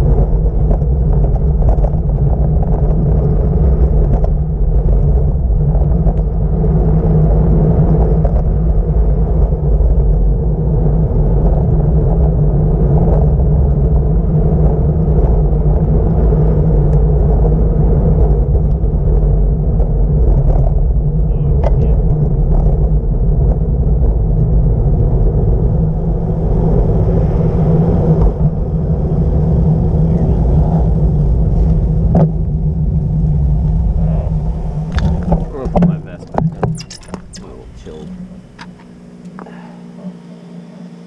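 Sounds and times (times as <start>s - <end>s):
wind rumble buffeting microphone: 0.0s - 40.2s.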